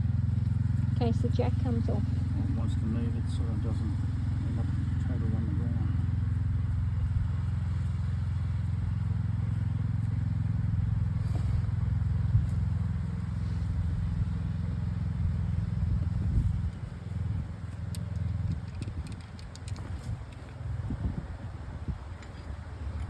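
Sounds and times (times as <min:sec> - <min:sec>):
engine running low rumble: 0:00.0 - 0:23.0.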